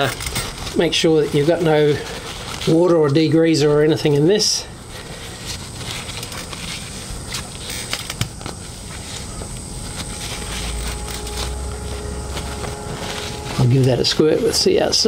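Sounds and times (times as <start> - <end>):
background hiss: 0.0 - 15.0
hands rubbing paper towel: 0.5 - 15.0.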